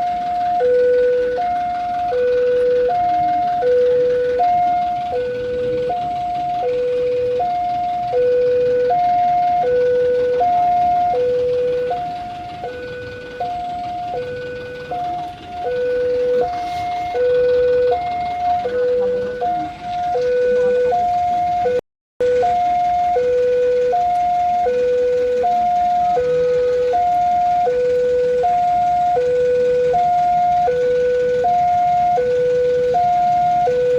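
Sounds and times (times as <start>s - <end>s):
two-tone electronic warning alarm: 0.0s - 33.9s.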